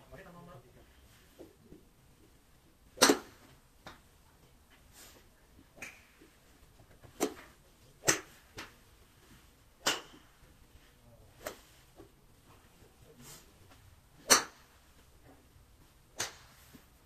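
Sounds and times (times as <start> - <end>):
golf clubs striking balls: 0.8 - 4.1, 5.1 - 12.9, 13.6 - 17.0.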